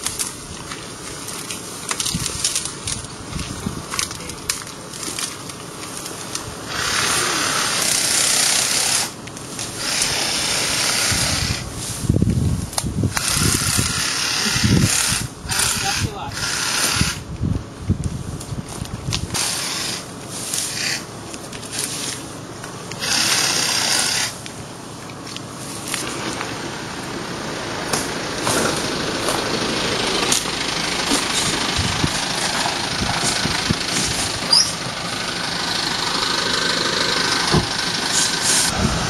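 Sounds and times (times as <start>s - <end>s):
vehicle wind and road noise: 0.0s - 39.0s.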